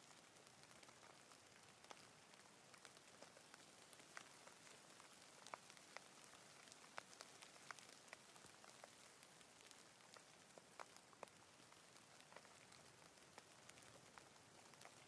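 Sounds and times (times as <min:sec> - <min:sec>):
light rain hiss: 0:00.0 - 0:15.0
raindrops ticking on a surface: 0:00.0 - 0:15.0.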